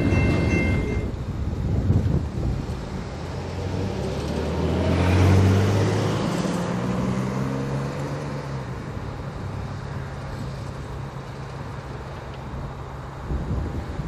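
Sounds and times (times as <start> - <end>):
diesel locomotive passing: 0.0 - 13.8.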